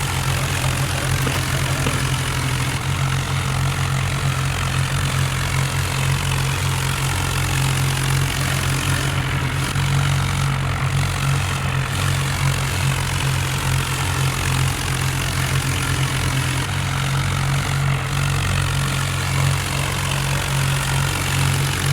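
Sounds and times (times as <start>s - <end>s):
tractor diesel engine running: 0.0s - 21.9s.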